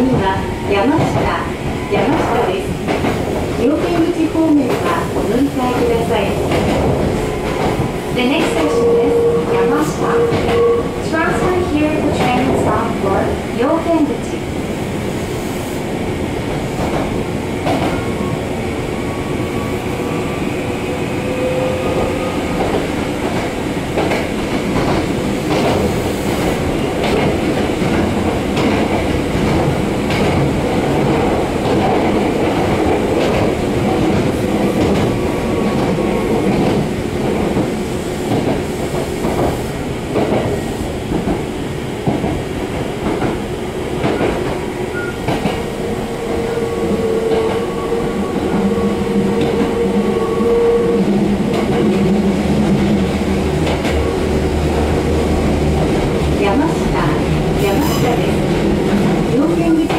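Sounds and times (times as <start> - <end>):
rail joints clickety-clack: 0.0 - 59.9
train wheels rumbling on rail: 0.0 - 59.9.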